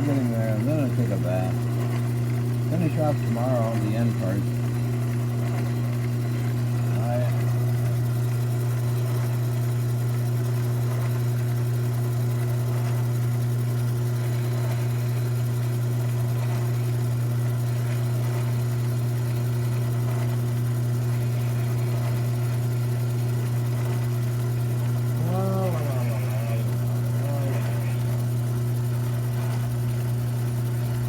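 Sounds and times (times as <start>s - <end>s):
lathe motor humming: 0.0s - 31.0s.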